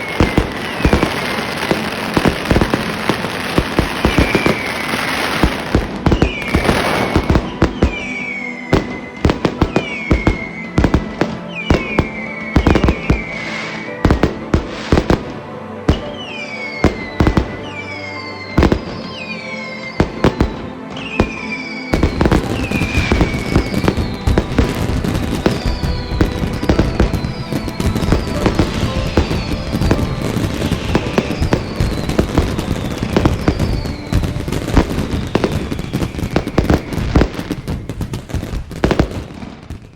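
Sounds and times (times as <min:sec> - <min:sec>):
falling firework whistle: 0:00.0 - 0:15.3, 0:15.9 - 0:39.9
background music: 0:00.0 - 0:39.9
fireworks bangs and crackles: 0:00.0 - 0:39.9.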